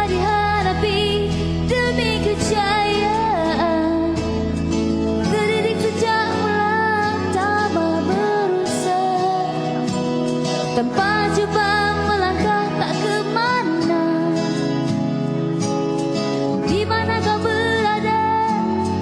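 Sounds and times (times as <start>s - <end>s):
person singing: 0.0s - 4.3s, 5.2s - 14.8s, 16.6s - 19.0s
held chords and bass: 0.0s - 19.0s.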